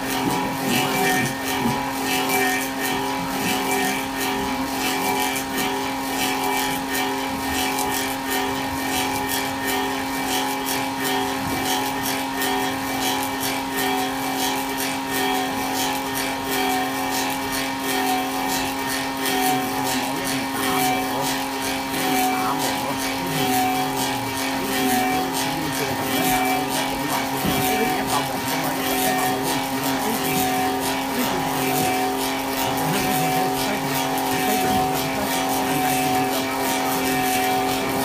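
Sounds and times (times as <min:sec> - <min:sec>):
cutters chattering on wood: 0:00.0 - 0:38.0
lathe machine hum: 0:00.0 - 0:38.0.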